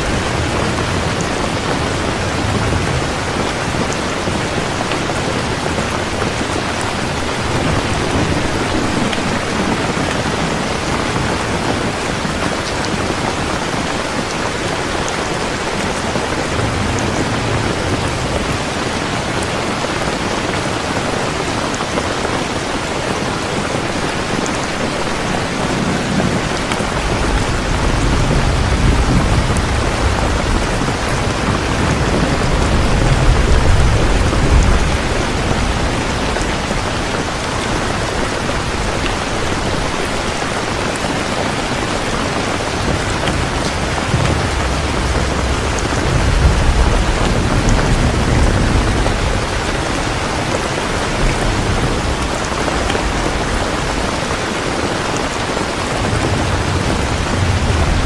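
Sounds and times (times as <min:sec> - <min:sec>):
rolling thunder: 0:00.0 - 0:20.9, 0:24.0 - 0:40.4, 0:41.0 - 0:58.0
heavy rain: 0:00.0 - 0:58.0.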